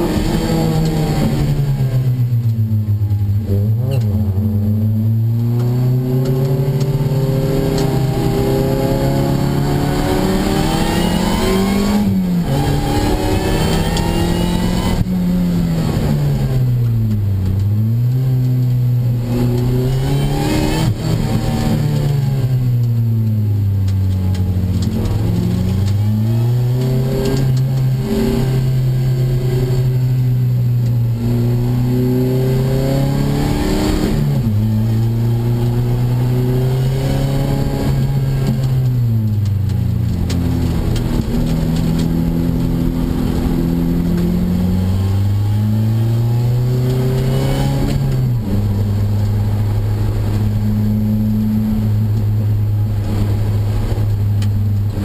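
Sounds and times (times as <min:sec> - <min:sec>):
car engine revving through gears: 0:00.0 - 0:55.0.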